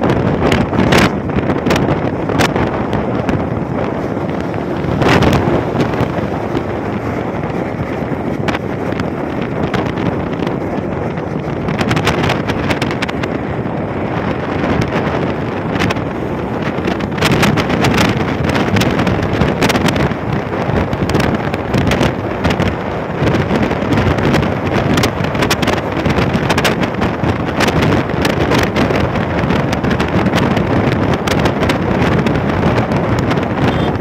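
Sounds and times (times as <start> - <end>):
wind gust buffets: 0.0 - 34.0
wind roaring over microphone: 0.0 - 34.0.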